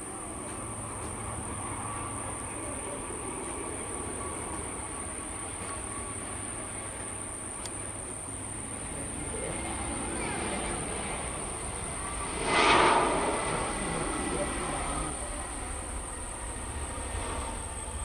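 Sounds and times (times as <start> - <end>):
jet engines landing: 0.0 - 18.0.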